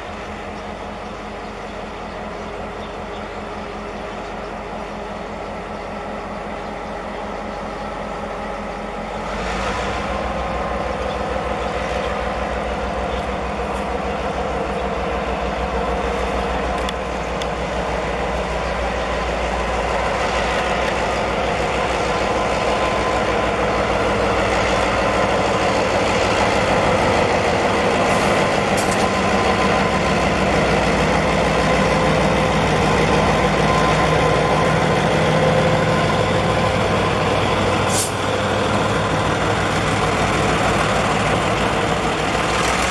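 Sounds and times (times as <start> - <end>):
diesel locomotive engine running: 0.0 - 42.9.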